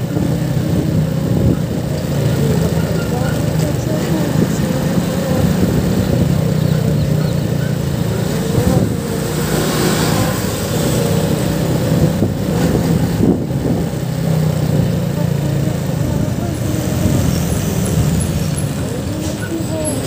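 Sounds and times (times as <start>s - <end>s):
motorcycle engine running: 0.0s - 20.0s
road noise rushing: 0.0s - 20.0s.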